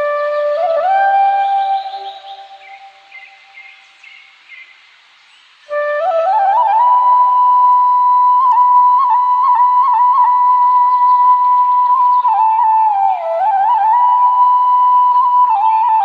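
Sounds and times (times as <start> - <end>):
flute music: 0.0 - 3.8, 5.6 - 16.0.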